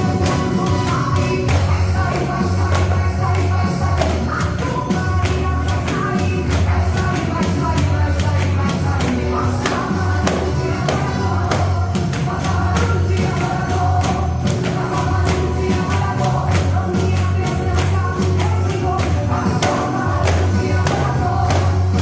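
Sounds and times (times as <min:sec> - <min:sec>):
backing music: 0:00.0 - 0:22.0
gospel singing: 0:00.0 - 0:22.0
pandeiro jingling rhythm: 0:00.0 - 0:22.0.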